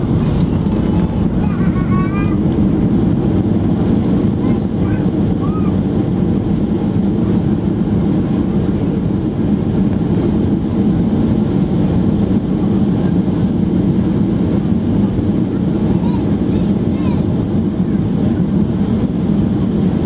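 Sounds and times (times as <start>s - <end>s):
airplane cabin low rumble: 0.0s - 20.0s.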